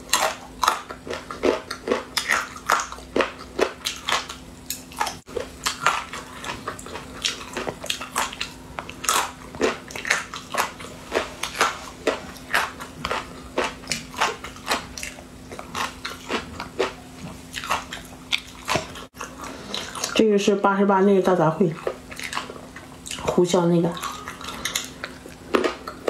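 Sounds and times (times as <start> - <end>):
crunchy chewing: 0.0 - 20.3, 21.6 - 26.0.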